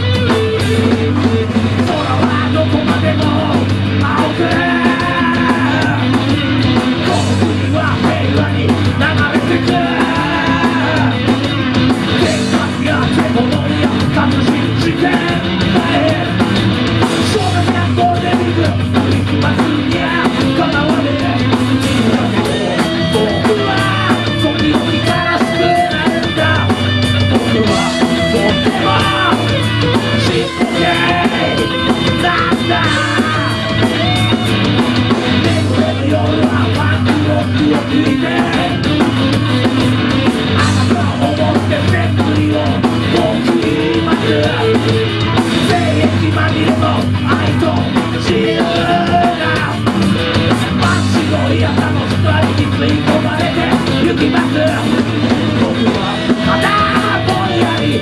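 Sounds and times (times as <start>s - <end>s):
rock band playing loudly: 0.0s - 58.0s.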